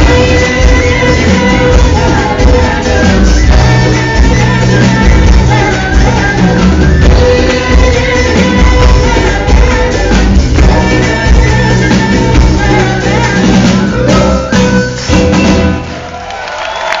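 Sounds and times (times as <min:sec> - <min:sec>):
person singing: 0:00.0 - 0:15.6
conga drums: 0:00.0 - 0:16.2.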